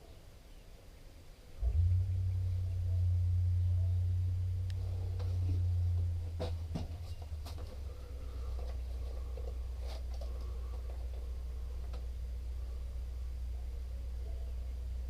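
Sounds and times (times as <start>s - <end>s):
low motor hum: 1.6s - 15.0s.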